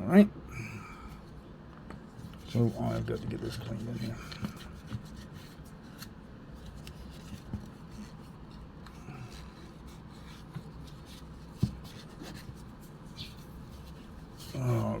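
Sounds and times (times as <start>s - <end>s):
cloth rubbing and scrubbing: 2.3s - 15.0s.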